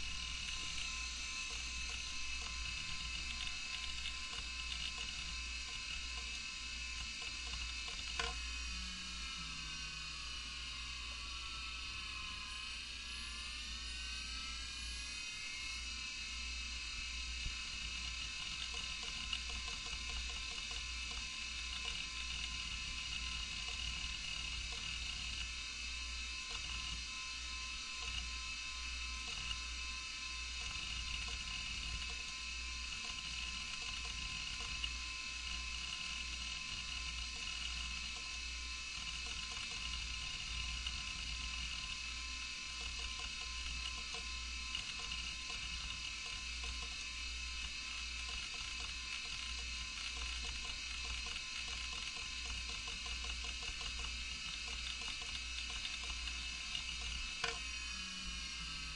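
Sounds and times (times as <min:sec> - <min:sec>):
faint hard drive ticks: 0:00.0 - 0:08.5, 0:17.4 - 0:57.7
hard drive hum and whine: 0:00.0 - 0:58.9.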